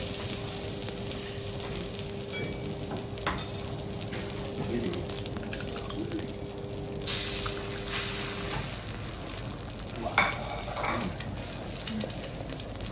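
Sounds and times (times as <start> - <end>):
food sizzling on griddle: 0.0 - 12.9
steady hum: 0.0 - 12.9.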